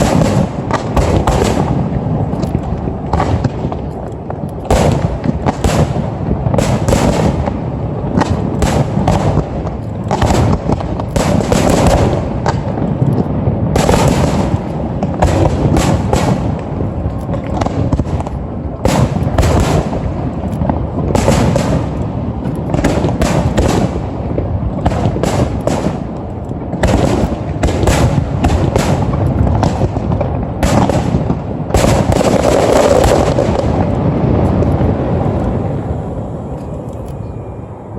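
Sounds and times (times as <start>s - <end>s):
fireworks bangs: 0.0s - 36.9s
echoing rumble: 0.0s - 37.9s.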